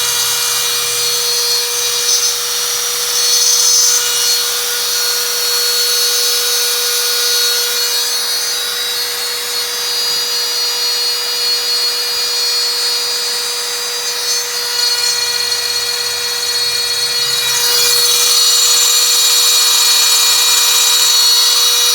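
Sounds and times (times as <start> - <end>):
router spindle whine: 0.0 - 21.9.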